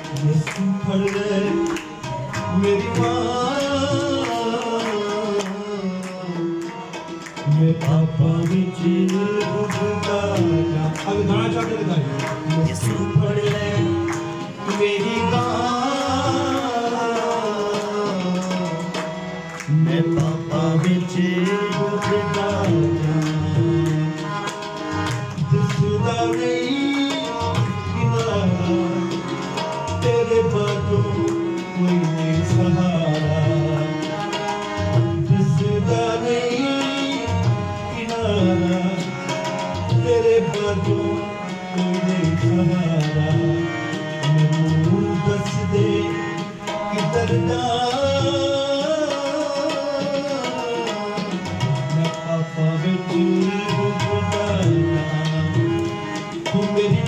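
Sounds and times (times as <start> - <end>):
harmonium chords: 0.0 - 57.0
man singing: 0.0 - 57.0
tabla strokes: 0.0 - 57.0.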